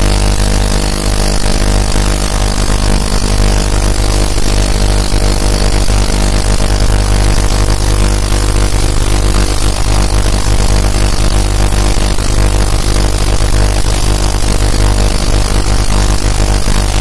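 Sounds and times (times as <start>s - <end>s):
ultrasonic cleaner buzzing hum: 0.0s - 17.0s.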